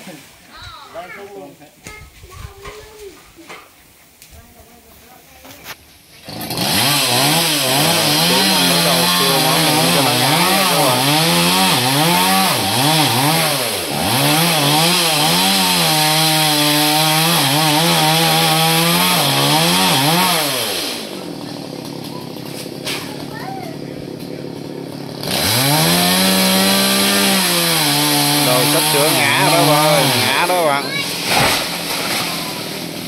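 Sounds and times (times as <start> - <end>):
chainsaw revving while cutting: 6.2 - 33.0.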